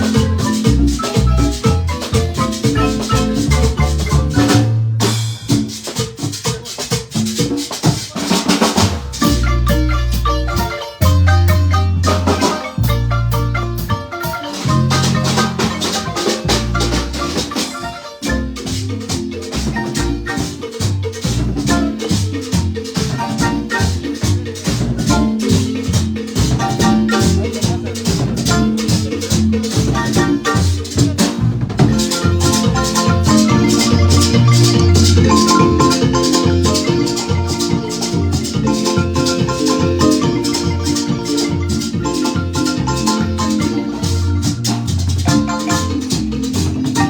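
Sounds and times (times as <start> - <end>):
deep bass notes: 0.0 - 5.5, 9.1 - 17.4, 18.3 - 47.0
marimba ensemble playing: 0.0 - 47.0
percussion: 0.0 - 47.0.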